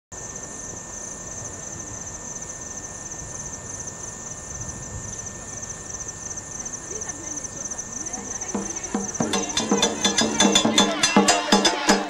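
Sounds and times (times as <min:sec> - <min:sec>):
insect chirping in pulses: 0:00.2 - 0:12.0
insect high-pitched trill: 0:00.2 - 0:12.0.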